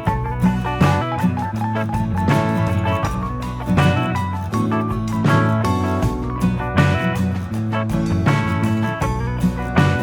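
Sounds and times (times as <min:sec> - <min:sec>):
guitar music with bass and beat: 0:00.0 - 0:10.0.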